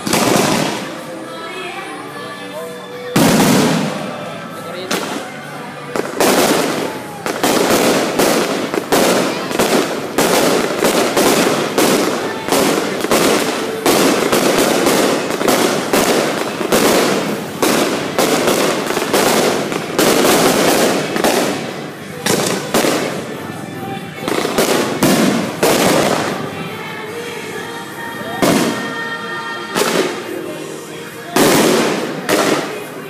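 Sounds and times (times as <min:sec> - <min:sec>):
fireworks bangs: 0:00.0 - 0:01.2, 0:03.1 - 0:27.2, 0:28.3 - 0:30.5, 0:31.3 - 0:33.0
fireworks crackling: 0:00.0 - 0:33.0.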